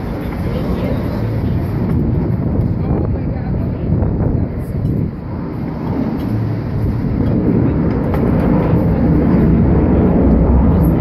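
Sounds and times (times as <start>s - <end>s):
aircraft flying past: 0.0s - 11.0s.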